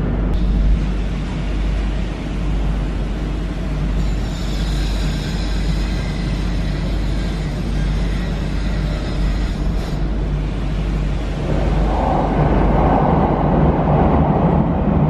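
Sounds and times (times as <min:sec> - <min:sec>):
vehicles rumbling in underpass: 0:00.0 - 0:15.0.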